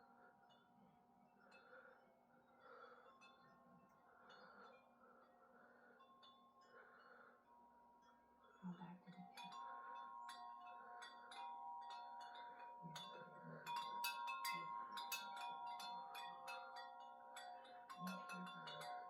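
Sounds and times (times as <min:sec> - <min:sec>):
wind chimes ringing: 0:00.0 - 0:19.0.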